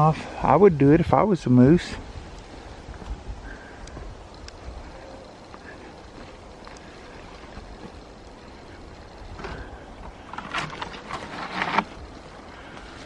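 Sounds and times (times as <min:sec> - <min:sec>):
wind rumbling on microphone: 0:00.0 - 0:12.8
rustling in undergrowth: 0:01.4 - 0:13.0.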